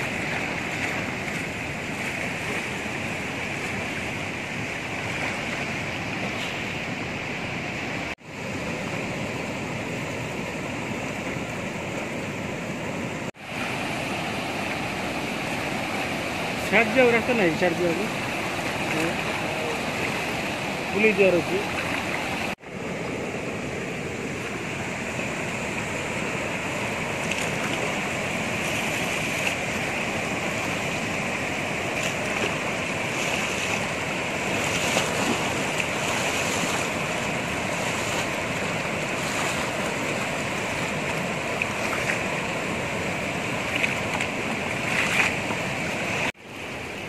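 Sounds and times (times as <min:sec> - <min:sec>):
river rushing over rapids: 0:00.0 - 0:47.0.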